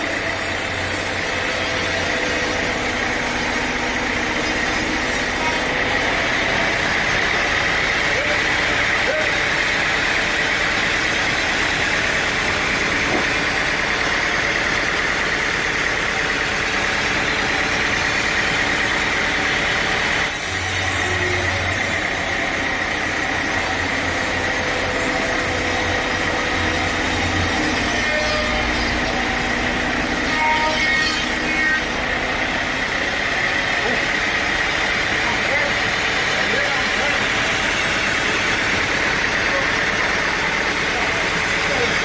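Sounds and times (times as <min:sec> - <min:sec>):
constant high whine: 0:00.0 - 0:42.0
sawmill machinery engine hum: 0:00.0 - 0:42.0.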